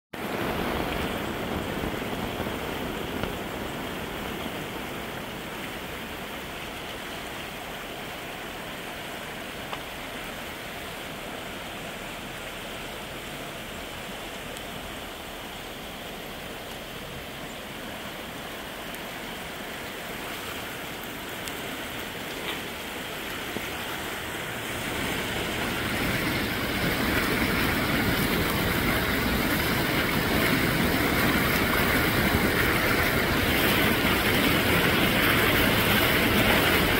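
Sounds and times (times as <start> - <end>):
floodwater rushing down a channel: 0.2 - 36.9
water pouring from a culvert: 0.2 - 36.9.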